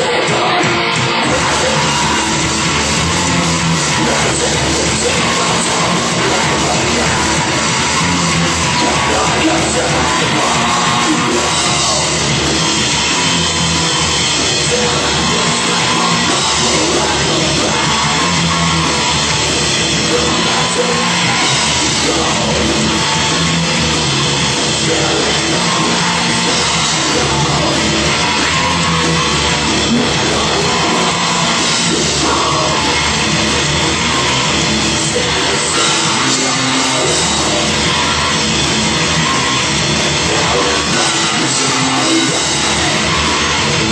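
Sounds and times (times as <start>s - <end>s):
drums: 0.0s - 43.9s
person yelling singing: 0.0s - 43.9s
rock band playing live: 0.0s - 43.9s.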